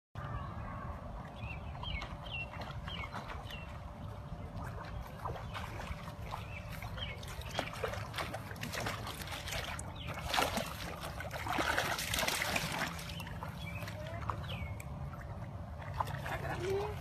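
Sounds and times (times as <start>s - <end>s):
water splashing and trickling: 0.8s - 17.0s.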